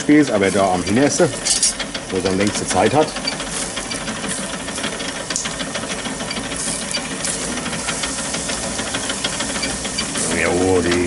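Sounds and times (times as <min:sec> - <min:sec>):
meat sizzling over charcoal: 0:00.0 - 0:11.0.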